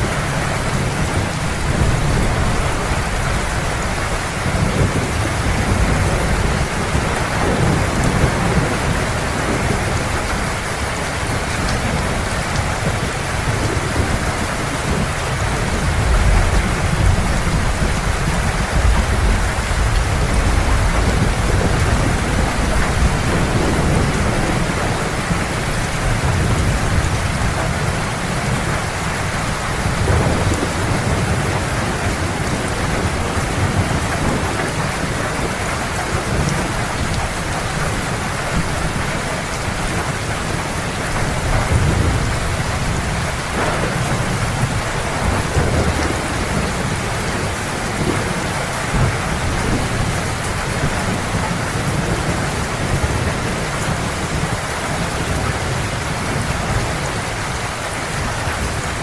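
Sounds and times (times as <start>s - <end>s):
rolling thunder: 0.0s - 57.7s
heavy rain pouring: 0.0s - 59.0s.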